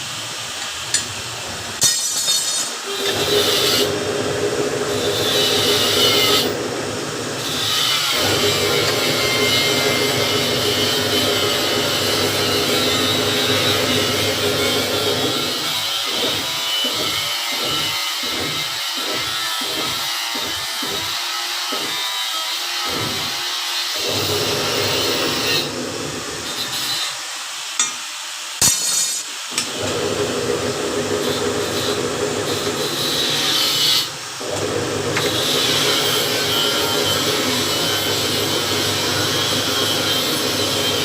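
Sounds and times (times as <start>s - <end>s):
power tool grinding metal: 1.8s - 28.0s, 28.6s - 41.0s.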